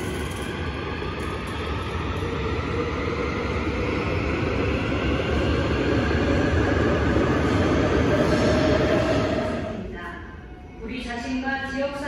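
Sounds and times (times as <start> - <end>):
rising whine: 0.0 - 9.9
electric train running rumble: 0.0 - 10.9.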